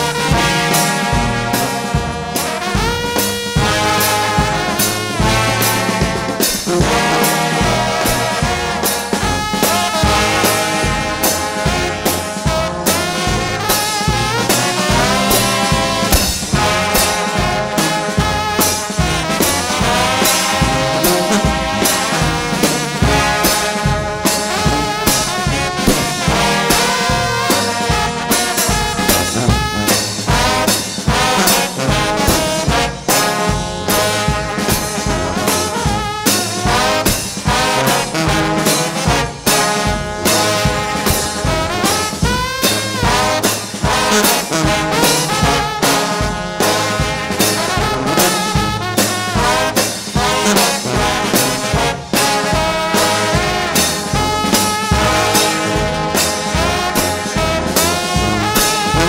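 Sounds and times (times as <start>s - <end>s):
steady driving beat: 0.0s - 59.0s
trombone band playing: 0.0s - 59.0s.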